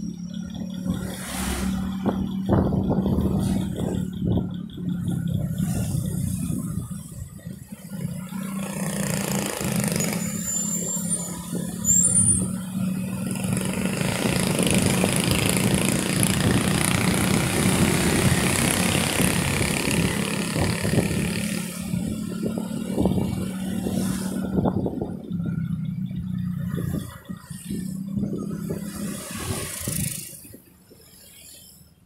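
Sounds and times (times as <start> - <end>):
road and wind rush: 0.0 - 32.0
vehicle engine hum: 0.0 - 32.0.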